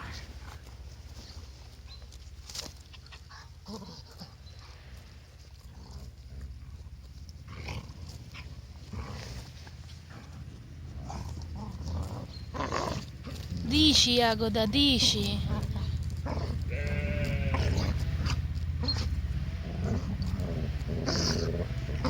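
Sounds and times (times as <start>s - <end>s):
low steady rumble: 0.0s - 22.0s
sheep tearing grass: 0.0s - 22.0s.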